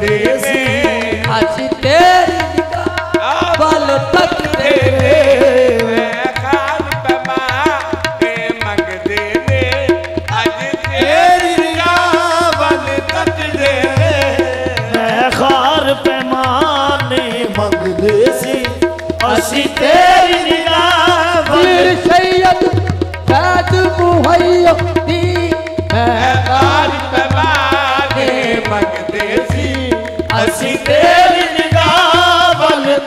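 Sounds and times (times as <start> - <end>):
harmonium: 0.0 - 33.0
tabla drumming: 0.0 - 33.0.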